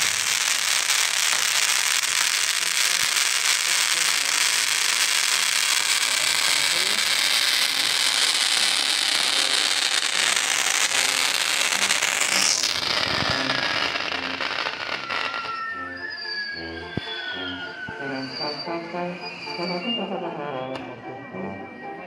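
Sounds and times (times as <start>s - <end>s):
fireworks hissing and crackling: 0.0s - 19.4s.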